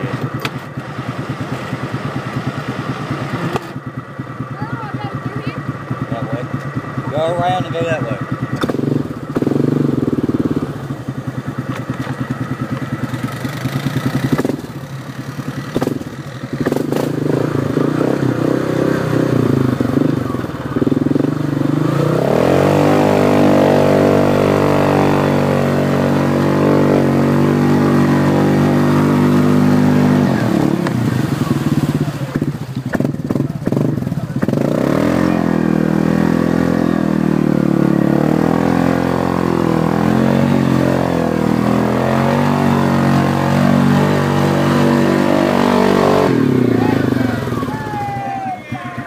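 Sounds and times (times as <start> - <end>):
small engine revving: 0.0 - 3.8, 4.5 - 47.9.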